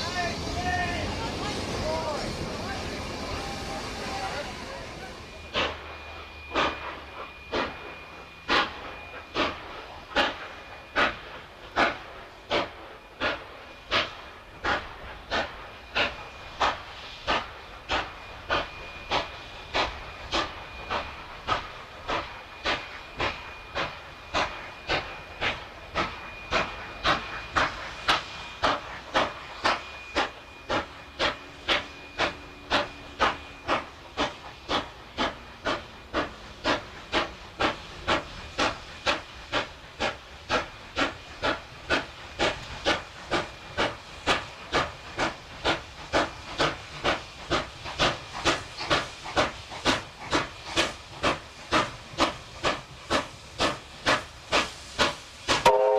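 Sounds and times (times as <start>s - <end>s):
steam hiss: 0.0s - 55.9s
steam locomotive exhaust beats: 0.0s - 55.9s.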